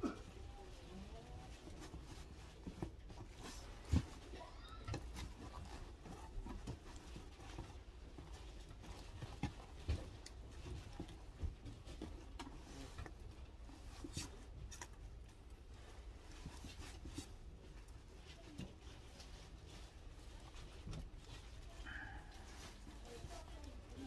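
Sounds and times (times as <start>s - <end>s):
flower stems knocking and rustling: 0.0s - 24.0s.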